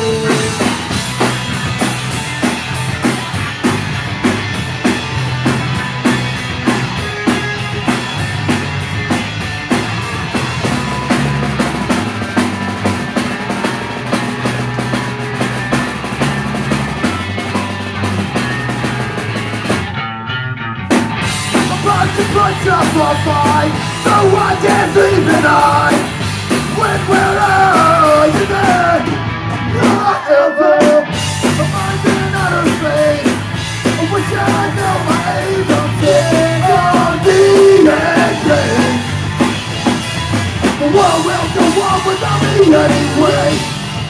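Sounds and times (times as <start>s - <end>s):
punk band playing live: 0.0s - 44.0s.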